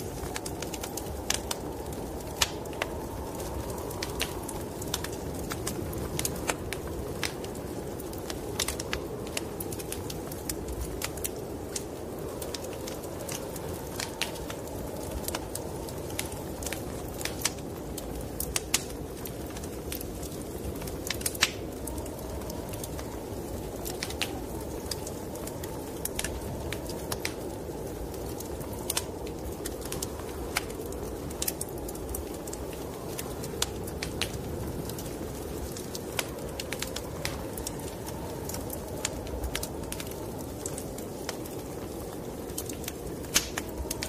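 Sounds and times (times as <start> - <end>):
snowstorm wind rushing: 0.0 - 44.0
wood fire crackling and popping: 0.0 - 44.0.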